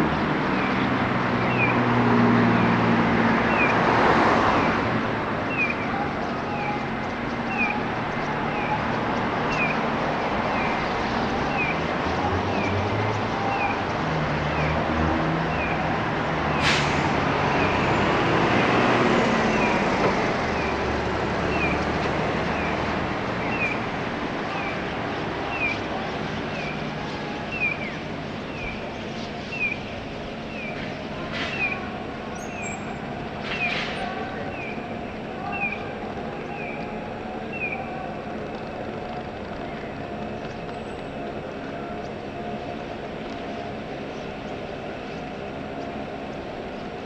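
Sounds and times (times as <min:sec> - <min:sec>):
engine hum: 0:00.0 - 0:47.0
road traffic: 0:00.0 - 0:47.0.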